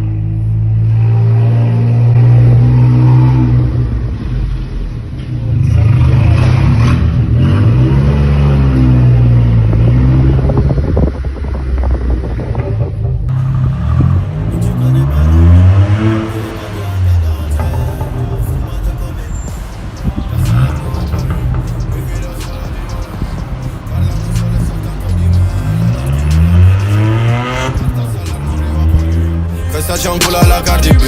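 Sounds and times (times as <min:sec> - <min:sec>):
car engine revving through exhaust: 0:00.0 - 0:31.0.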